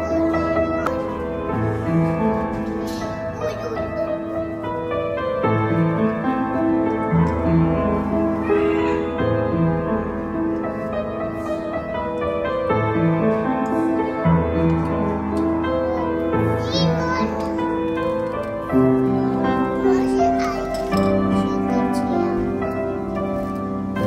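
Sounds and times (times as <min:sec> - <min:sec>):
piano background music: 0:00.0 - 0:24.0.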